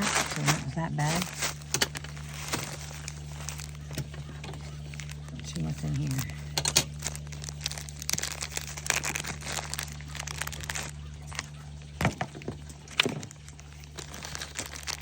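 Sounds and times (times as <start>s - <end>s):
plastic packaging crinkling: 0.0s - 15.0s
steady low hum: 0.0s - 15.0s.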